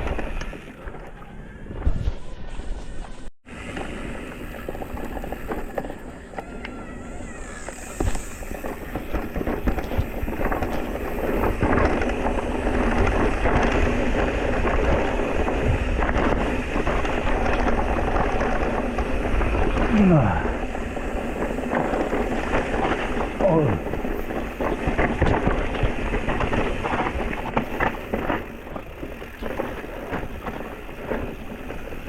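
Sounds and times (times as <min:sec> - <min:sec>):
bike tyres crunching over stones: 0:00.0 - 0:32.0
bike clattering: 0:03.0 - 0:32.0.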